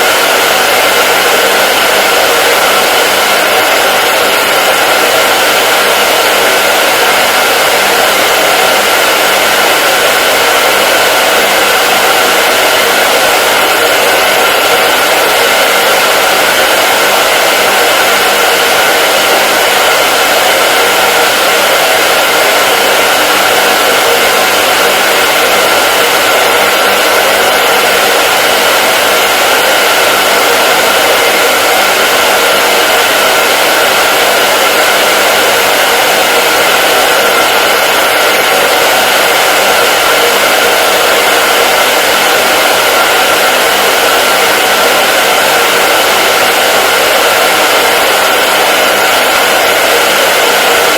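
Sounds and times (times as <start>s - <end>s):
hair dryer running: 0.0s - 50.9s.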